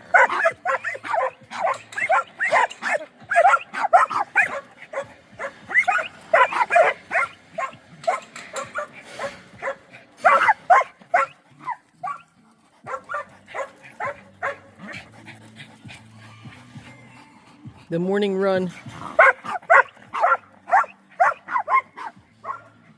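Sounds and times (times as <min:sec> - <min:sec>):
dogs barking: 0:00.0 - 0:17.8, 0:18.8 - 0:22.9.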